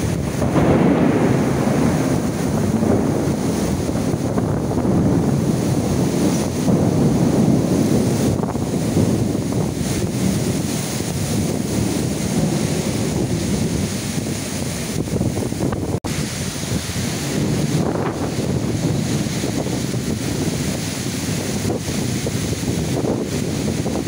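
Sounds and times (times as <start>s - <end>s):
heavy rain pouring: 0.0s - 24.0s
wind buffeting microphone: 0.0s - 24.0s.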